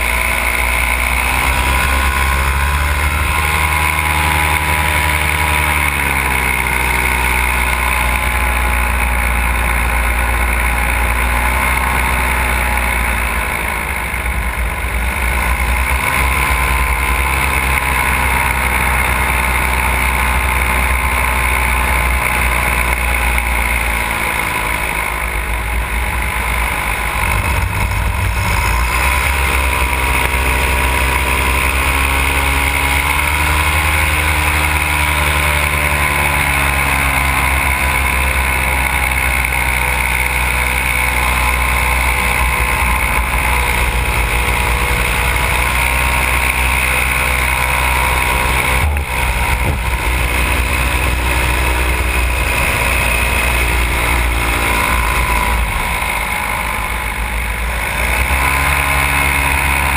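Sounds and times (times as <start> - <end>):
paramotor engine and propeller: 0.0 - 59.9.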